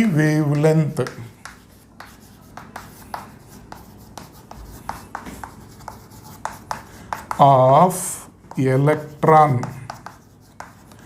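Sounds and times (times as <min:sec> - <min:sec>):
pen scratching and tapping on paper: 0:00.0 - 0:11.0.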